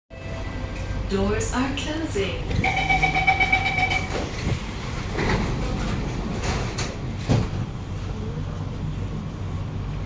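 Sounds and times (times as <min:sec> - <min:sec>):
train equipment hum: 0:00.1 - 0:10.0
train sliding doors closing: 0:00.2 - 0:10.0.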